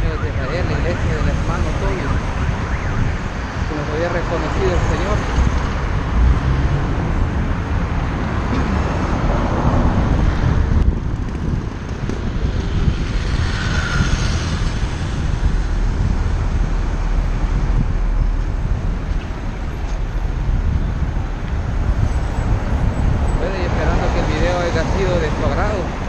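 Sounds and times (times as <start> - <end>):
city traffic passing: 0.0 - 26.0
vehicle road noise: 0.0 - 26.0
wind on microphone: 0.0 - 26.0.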